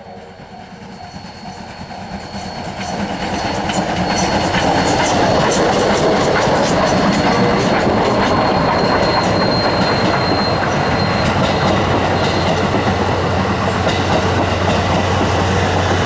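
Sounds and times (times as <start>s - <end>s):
high wheel squeal: 0.0s - 16.0s
steam train rolling past: 0.0s - 16.0s
wheels clattering over rail joints: 2.7s - 16.0s.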